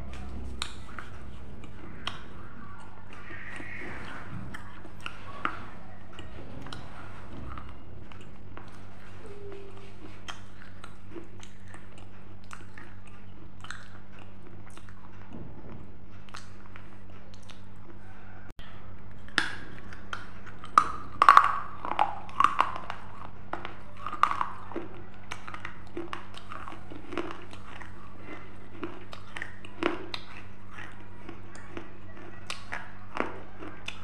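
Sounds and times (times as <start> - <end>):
crunchy snack chewing: 0.0 - 18.0, 19.0 - 34.0
low electrical hum: 0.0 - 34.0.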